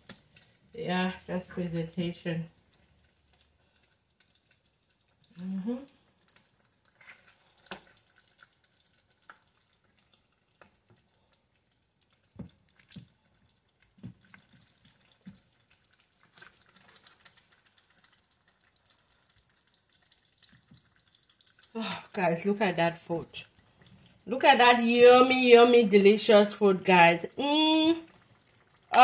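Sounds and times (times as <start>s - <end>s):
wet squelches of stew: 0.0s - 24.4s, 28.0s - 29.0s.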